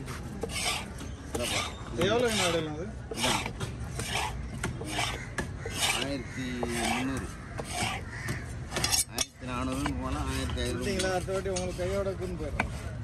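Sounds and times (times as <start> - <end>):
knife scraping and chopping on wood: 0.0 - 13.0.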